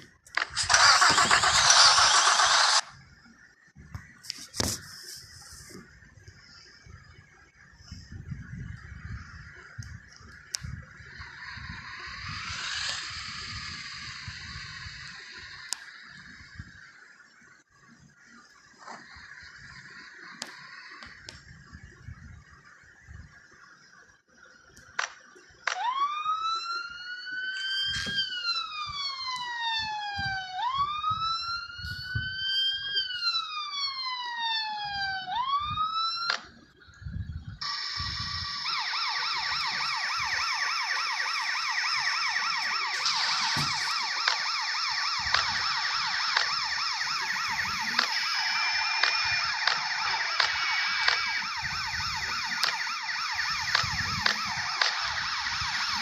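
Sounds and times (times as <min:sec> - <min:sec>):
fast warbling siren: 0:00.4 - 0:03.0, 0:04.7 - 0:23.9, 0:25.6 - 0:56.0
rising and falling siren wail: 0:00.4 - 0:03.0, 0:07.9 - 0:23.3, 0:25.6 - 0:56.0.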